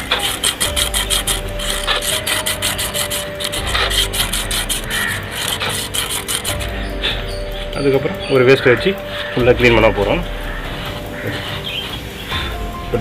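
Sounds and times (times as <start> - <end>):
sandpaper scratching metal drum: 0.0 - 13.0.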